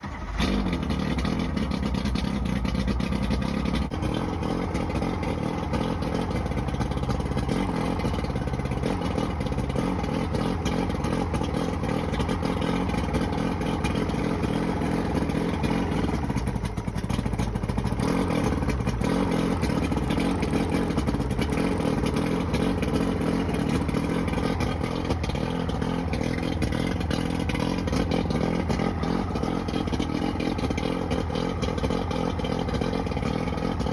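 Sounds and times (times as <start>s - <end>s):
misfiring outboard motor: 0.0s - 33.9s.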